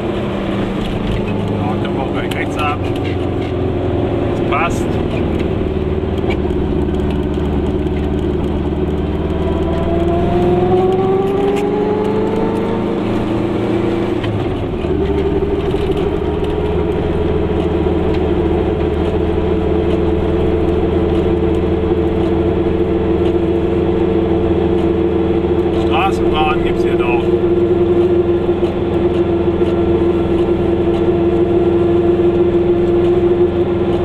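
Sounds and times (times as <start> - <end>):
two-stroke car engine: 0.0 - 34.0.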